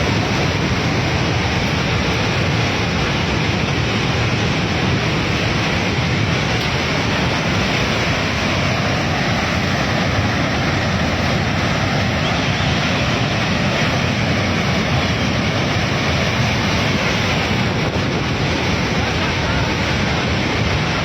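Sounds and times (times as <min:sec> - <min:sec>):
flood water rushing: 0:00.0 - 0:21.0.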